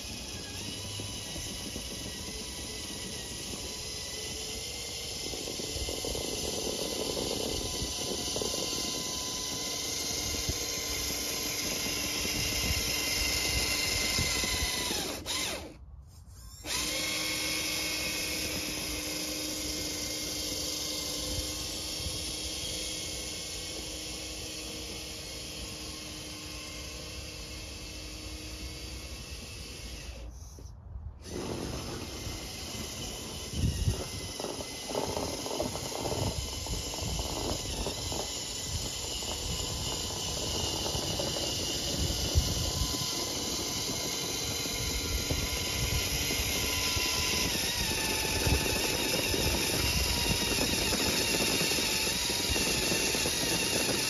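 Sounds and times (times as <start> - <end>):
rc truck motor and gear whine: 0.0 - 54.0.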